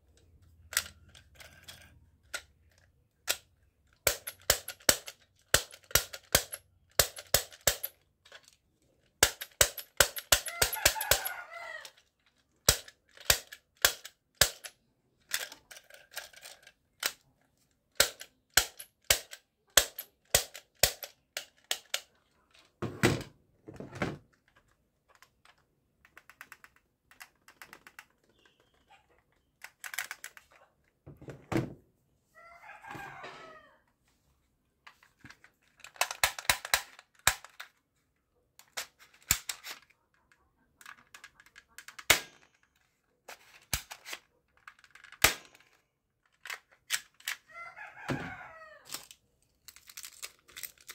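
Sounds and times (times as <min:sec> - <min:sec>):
toy gun rattling: 0:00.1 - 0:22.8, 0:24.4 - 0:30.7, 0:34.9 - 0:37.8, 0:38.6 - 0:47.5, 0:48.8 - 0:50.9.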